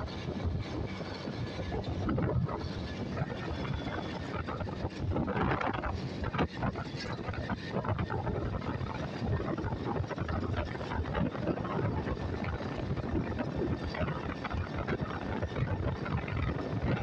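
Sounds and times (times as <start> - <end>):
vehicle road and engine rumble: 0.0 - 17.0
wind buffeting microphone: 0.0 - 17.0.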